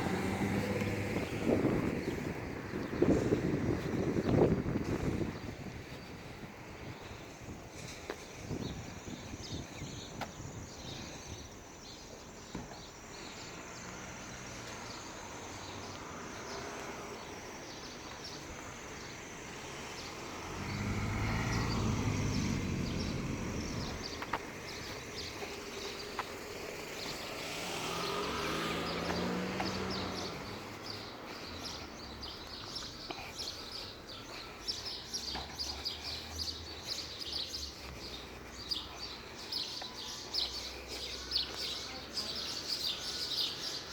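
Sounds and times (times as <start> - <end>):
passing traffic rumble: 0.0 - 9.8, 12.9 - 43.9
small birds chirping: 0.0 - 43.9.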